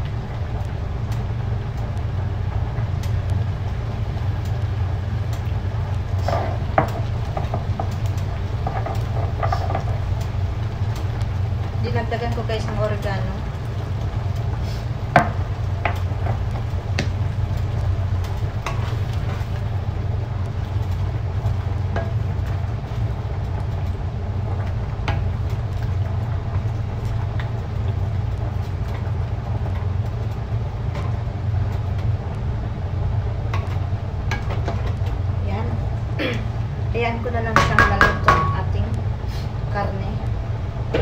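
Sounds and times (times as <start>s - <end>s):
steady low hum: 0.0s - 41.0s
wooden spoon stirring in a pan: 0.3s - 40.4s.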